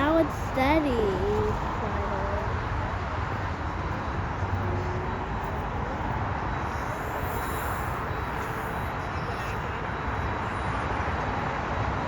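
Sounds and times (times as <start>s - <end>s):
jet airliner engines rushing: 0.0s - 12.0s.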